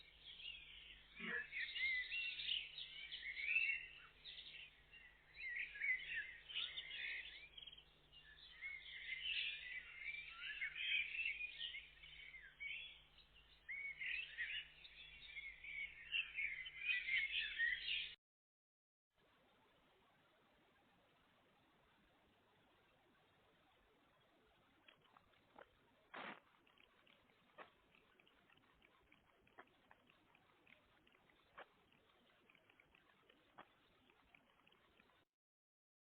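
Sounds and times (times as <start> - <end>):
songbirds chirping and singing: 0.0 - 18.2, 23.4 - 35.2.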